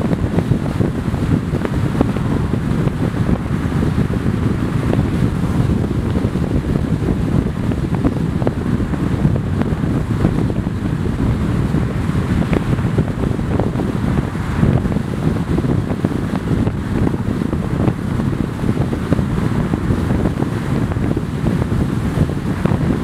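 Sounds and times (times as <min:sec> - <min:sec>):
road noise: 0:00.0 - 0:23.0
wind buffeting microphone: 0:00.0 - 0:23.0.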